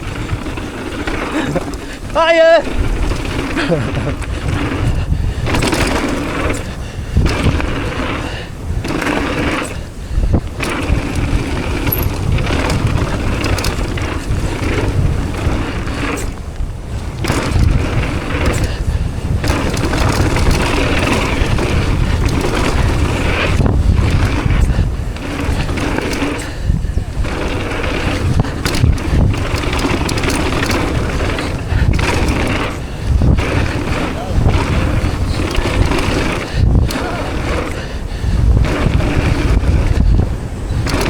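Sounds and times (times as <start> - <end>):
bike rattling over bumps: 0.0 - 41.0
bike tyres scraping over dirt: 0.0 - 41.0
wind rumble on microphone: 0.0 - 41.0.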